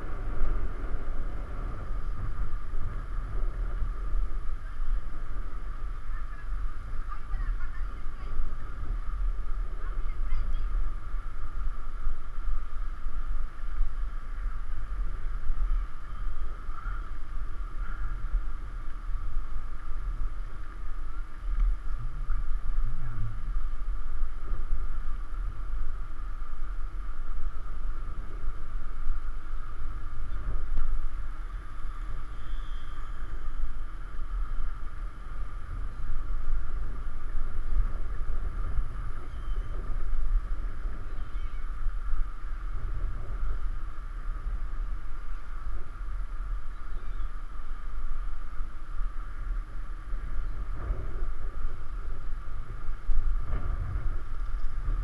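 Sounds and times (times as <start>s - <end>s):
bicycle rolling noise: 0.0s - 55.0s
faint hum: 0.0s - 55.0s
wind rushing over microphone: 0.0s - 55.0s.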